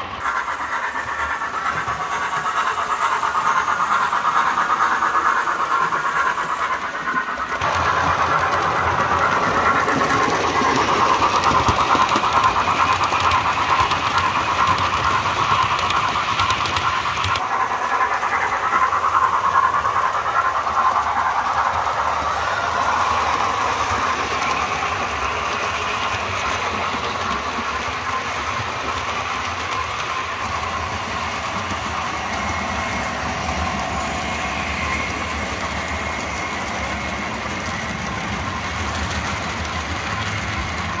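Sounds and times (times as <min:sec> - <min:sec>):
model trains running on track: 0:00.0 - 0:41.0.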